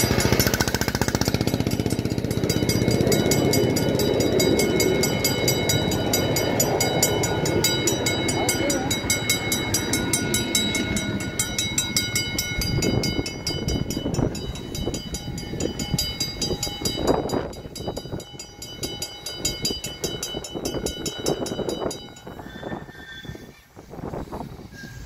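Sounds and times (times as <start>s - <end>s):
wheels knocking: 0.0s - 22.4s
rail vehicle rumbling on track: 0.0s - 25.0s.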